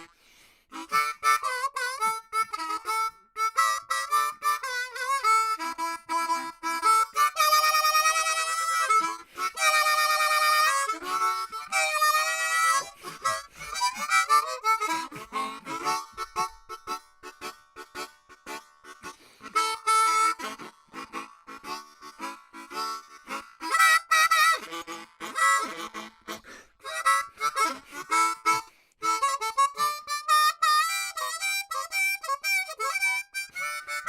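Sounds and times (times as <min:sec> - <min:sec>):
harmonica melody: 0:00.0 - 0:34.0.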